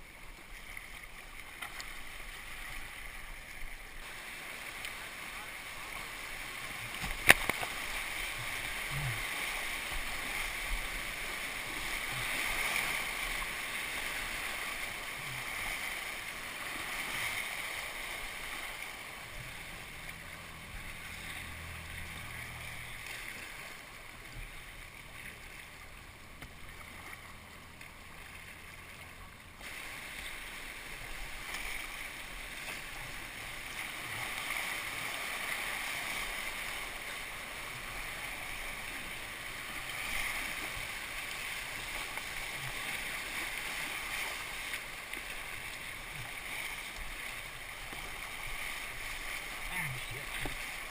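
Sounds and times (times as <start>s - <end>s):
whitewater rapids rushing: 0.0s - 50.9s.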